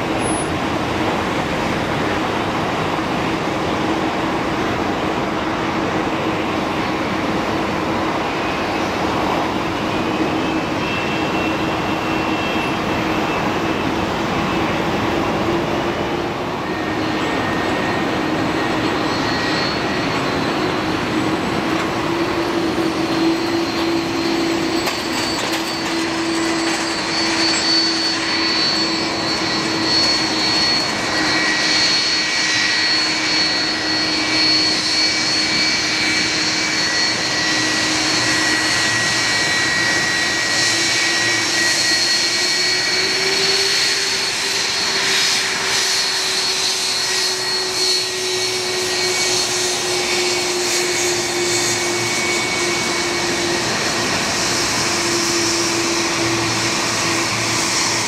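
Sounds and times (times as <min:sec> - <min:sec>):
jet engine roar with whine: 0:00.0 - 0:58.0.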